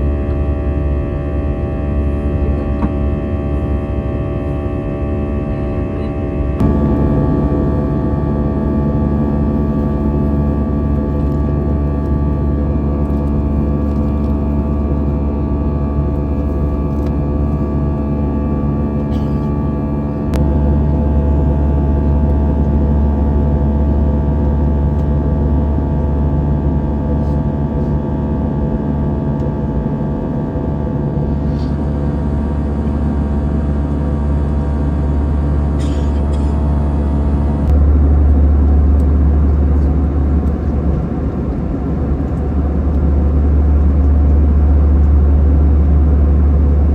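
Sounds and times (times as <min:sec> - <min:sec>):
airplane cabin drone: 0:00.0 - 0:46.9.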